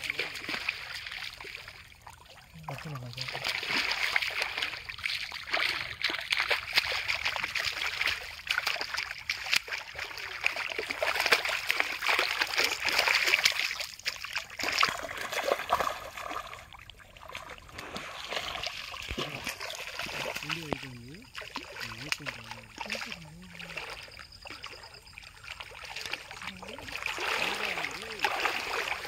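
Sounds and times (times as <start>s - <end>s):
fish thrashing and splashing in water: 0.0s - 29.0s.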